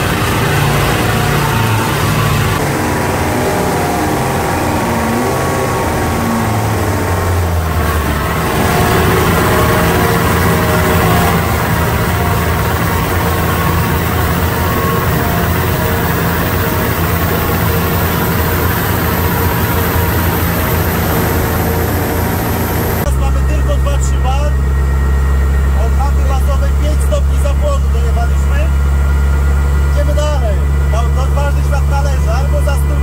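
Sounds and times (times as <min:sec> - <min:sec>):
turbocharged car engine running: 0:00.0 - 0:33.0.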